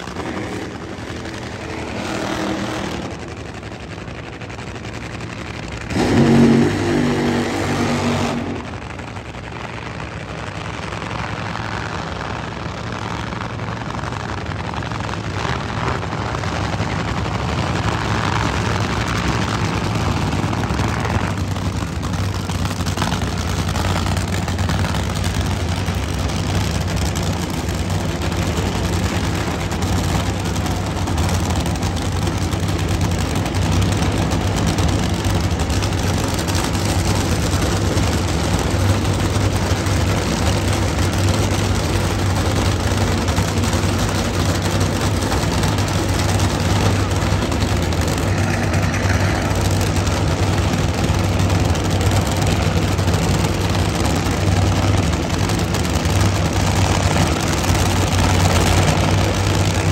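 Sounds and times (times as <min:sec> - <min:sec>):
engine drone: 0:00.0 - 0:59.9.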